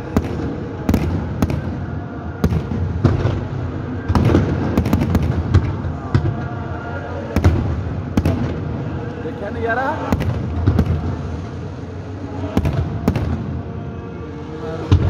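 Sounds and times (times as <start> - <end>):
fireworks bangs and cracks: 0.0 - 6.6, 7.3 - 11.6, 12.5 - 13.7.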